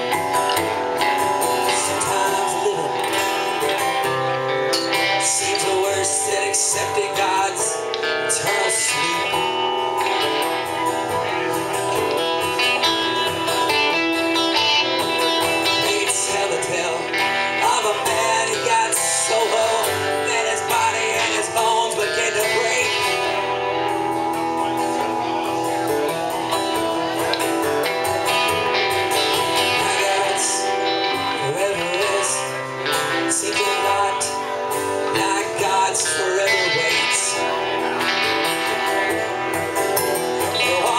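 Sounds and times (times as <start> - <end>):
acoustic guitar strumming: 0.0 - 40.9
electric guitar lead line: 0.0 - 40.9.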